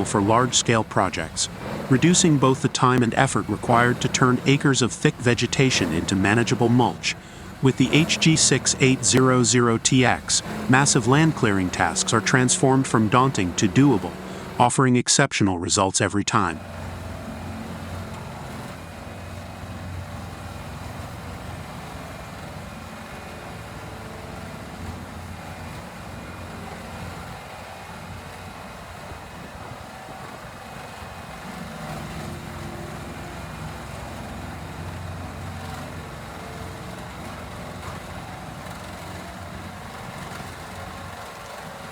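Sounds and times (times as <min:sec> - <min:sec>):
wood chipper running: 0:00.0 - 0:14.7, 0:16.5 - 0:41.9.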